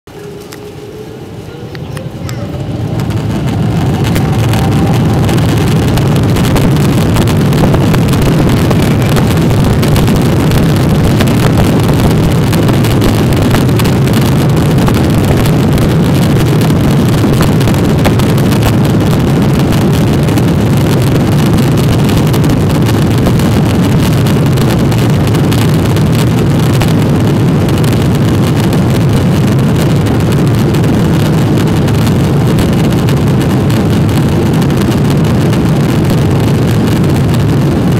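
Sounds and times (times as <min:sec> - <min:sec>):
airliner engines from cabin: 0:00.1 - 0:37.9.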